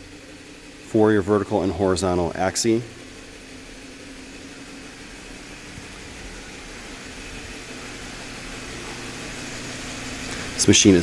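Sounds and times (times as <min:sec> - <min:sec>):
droning tones: 0:00.0 - 0:11.0
low mechanical hum with hiss: 0:00.0 - 0:11.0.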